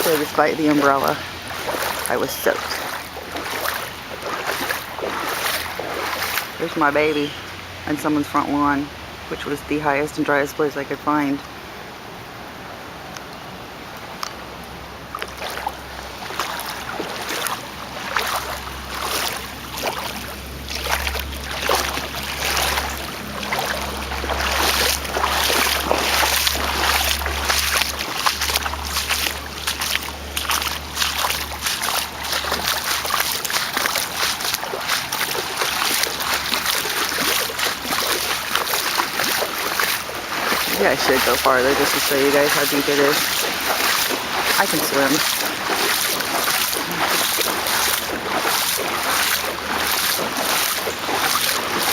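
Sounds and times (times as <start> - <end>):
footsteps wading through water: 0.0 - 11.4, 14.0 - 51.9.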